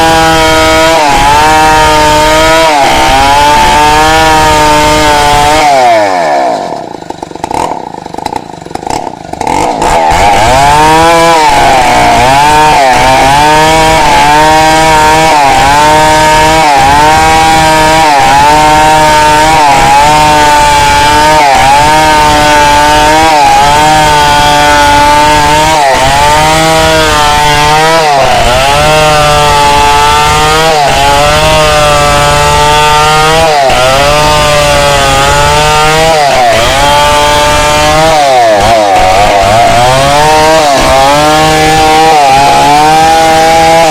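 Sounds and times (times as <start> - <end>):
chainsaw ripping a log: 0.0 - 43.9.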